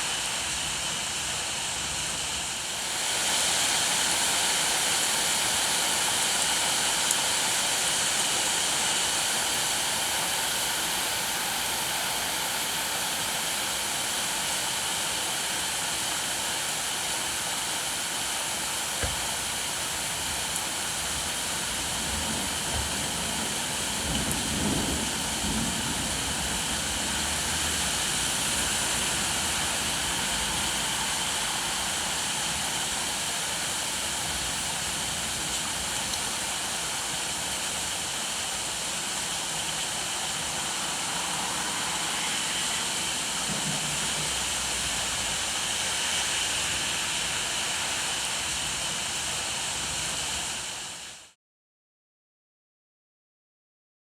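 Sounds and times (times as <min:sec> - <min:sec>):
steady rainfall: 0:00.0 - 0:51.4.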